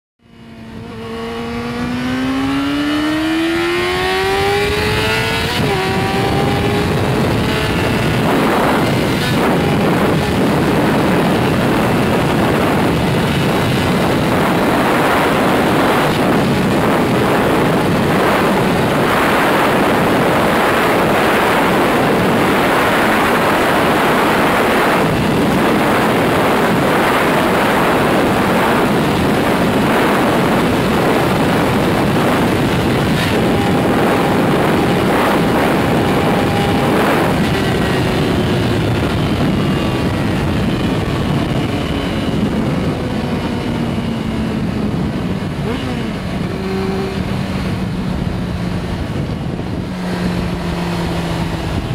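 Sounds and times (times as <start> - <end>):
motorcycle engine at high revs: 0.2 - 51.9
wind roar: 0.2 - 51.9.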